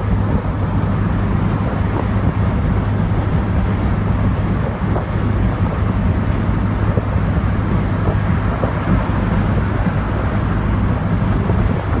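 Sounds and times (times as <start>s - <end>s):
road and tyre noise: 0.0s - 12.0s
wind buffeting microphone: 0.0s - 12.0s.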